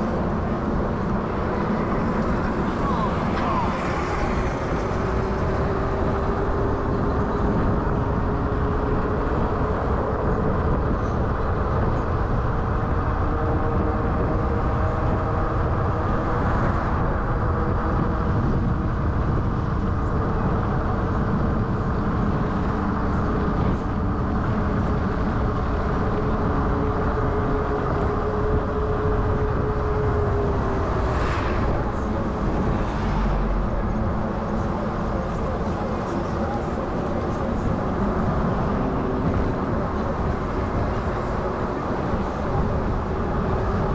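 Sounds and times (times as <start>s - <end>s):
road rumble: 0.0s - 43.9s
wind buffeting: 0.0s - 43.9s.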